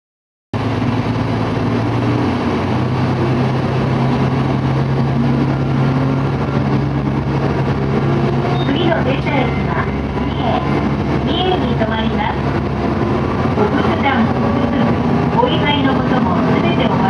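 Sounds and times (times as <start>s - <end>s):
diesel railcar engine running: 0.6s - 17.0s
train running over track: 0.6s - 17.0s.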